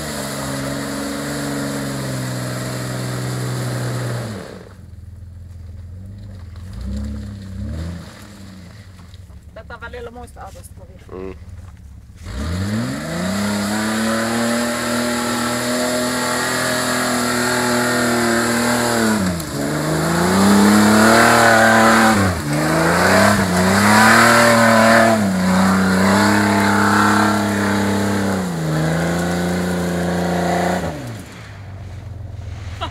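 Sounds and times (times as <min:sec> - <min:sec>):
engine revving in mud: 0:00.0 - 0:32.9.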